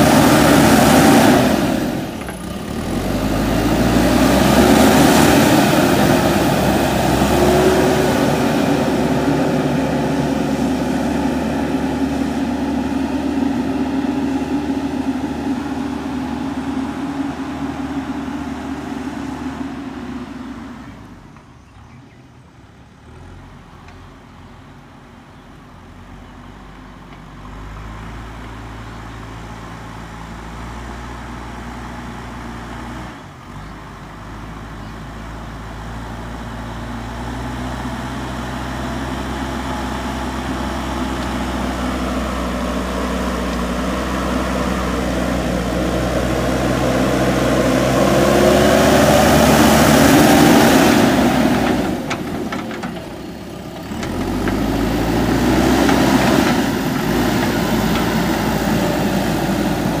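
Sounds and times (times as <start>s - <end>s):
diesel engine under load: 0.0s - 60.0s.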